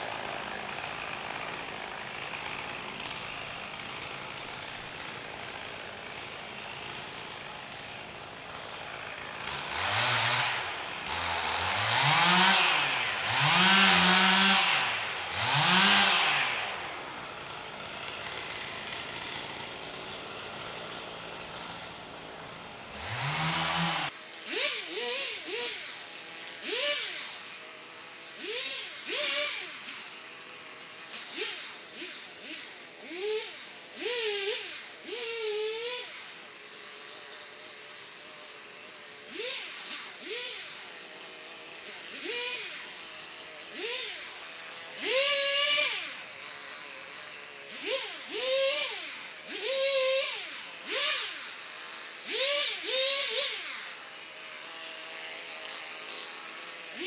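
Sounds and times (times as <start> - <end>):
power saw revving: 0.0 - 36.4, 37.7 - 57.0.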